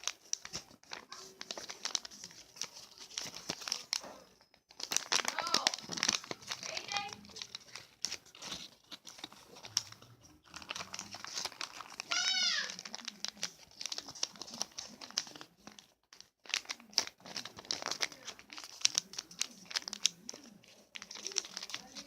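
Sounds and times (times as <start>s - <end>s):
paper crinkling while folded: 0.0s - 22.0s.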